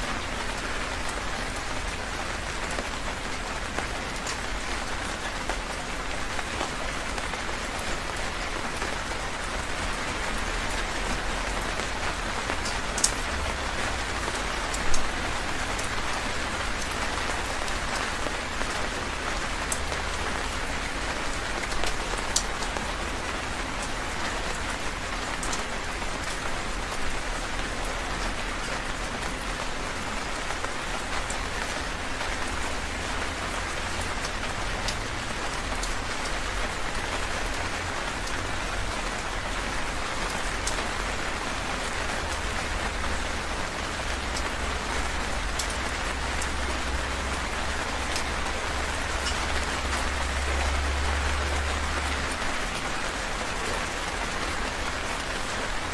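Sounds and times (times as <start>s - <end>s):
heavy rain hissing: 0.0s - 55.9s
rain drops ticking: 0.0s - 55.9s.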